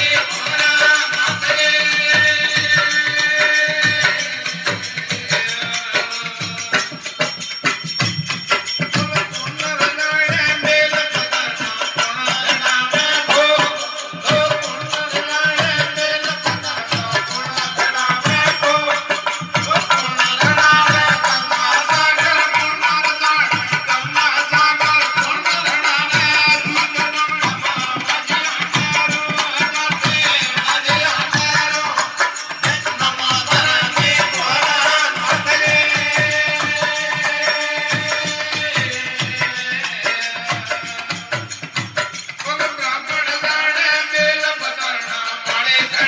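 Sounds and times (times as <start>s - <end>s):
hand drum beat: 0.0s - 43.5s
jingling percussion: 0.0s - 46.0s.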